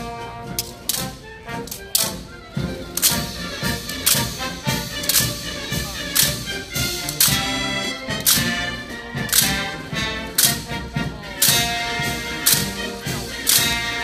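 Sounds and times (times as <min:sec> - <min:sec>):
military brass band playing: 0:00.0 - 0:14.0
hands striking rifles: 0:00.5 - 0:10.8, 0:11.4 - 0:14.0.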